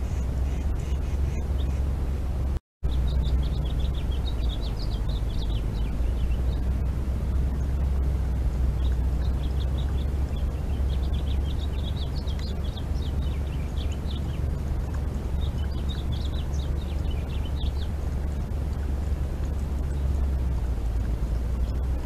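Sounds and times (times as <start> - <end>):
small birds chirping: 0.0 - 1.9, 2.8 - 22.0
steady low rumble: 0.0 - 22.0.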